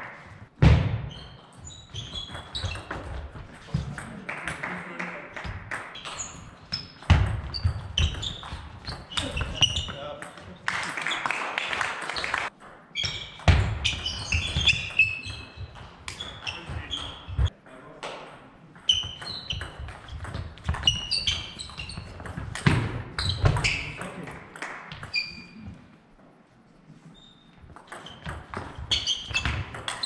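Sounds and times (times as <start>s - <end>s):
shoes squeaking on floor: 0.1s - 4.1s, 5.4s - 11.3s, 12.2s - 17.6s, 18.8s - 24.2s, 24.9s - 26.0s, 26.9s - 30.0s.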